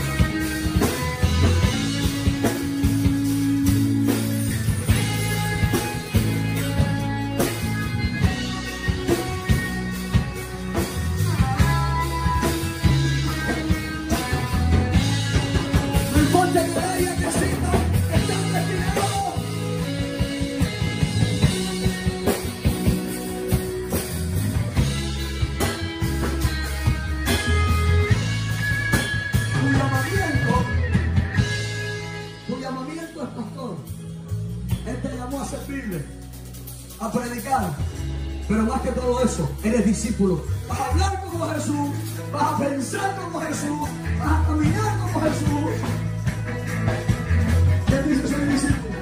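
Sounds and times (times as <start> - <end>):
drum kit beat: 0.0 - 49.0
live band playing upbeat song: 0.0 - 49.0.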